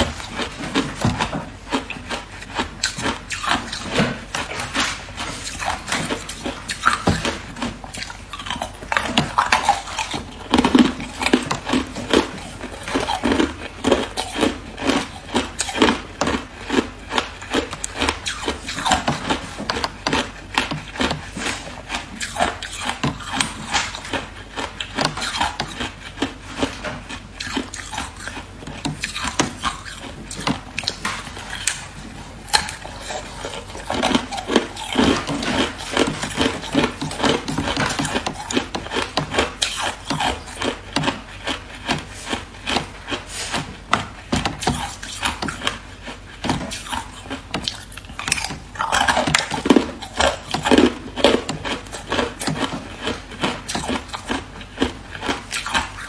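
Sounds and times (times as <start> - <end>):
person chewing ice: 0.0 - 56.0.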